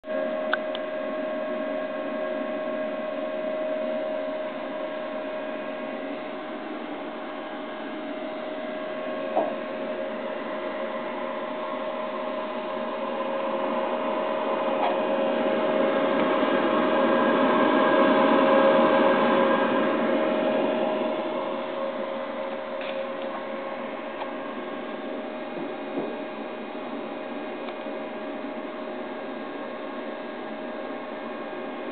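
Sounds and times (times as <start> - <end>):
machine humming and whining: 0.0 - 31.9.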